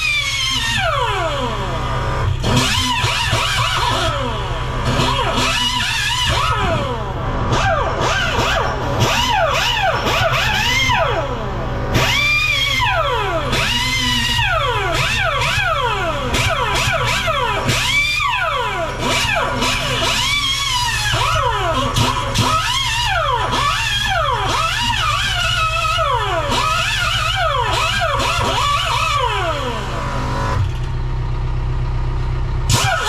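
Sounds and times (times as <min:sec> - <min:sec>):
air tyre buffer whining: 0:00.0 - 0:33.0
steady low hum: 0:03.6 - 0:32.8.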